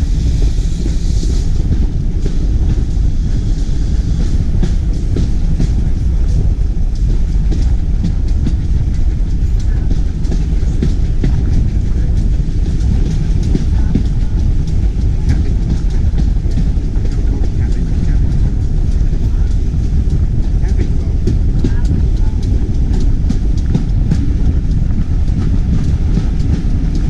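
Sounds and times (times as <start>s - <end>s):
train low rumble: 0.0s - 27.0s
wheels clicking over rail joints: 0.1s - 27.0s.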